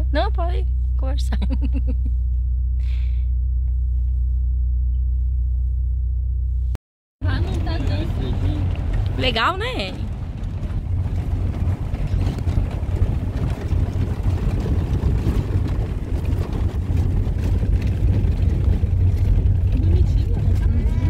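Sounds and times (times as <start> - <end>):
vehicle rumble with road noise: 0.0 - 21.0.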